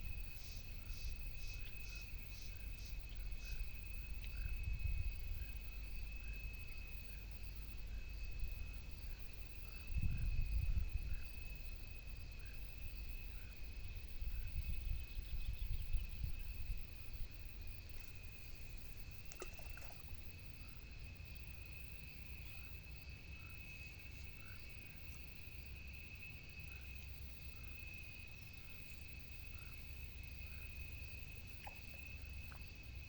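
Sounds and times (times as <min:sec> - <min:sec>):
high insect trill: 0:00.0 - 0:33.0.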